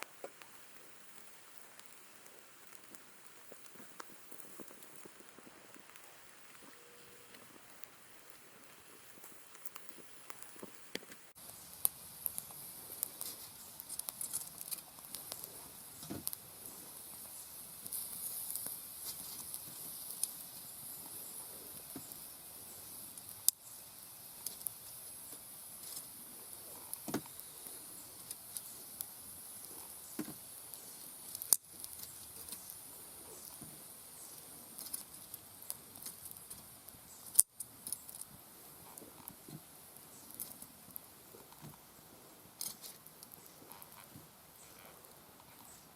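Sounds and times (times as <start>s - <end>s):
faint sizzling hiss: 0.0s - 45.9s
wood fire crackles and pops: 0.0s - 45.9s.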